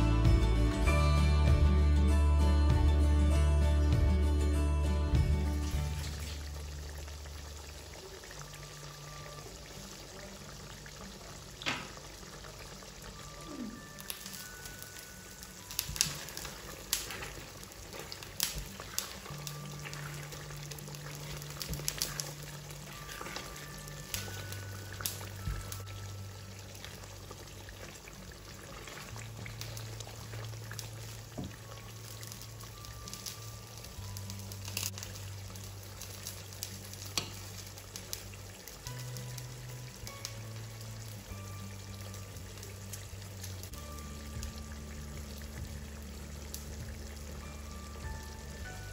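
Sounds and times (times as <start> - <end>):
soft background music: 0.0 - 48.9
sauce bubbling and popping: 5.5 - 10.0, 10.8 - 48.7.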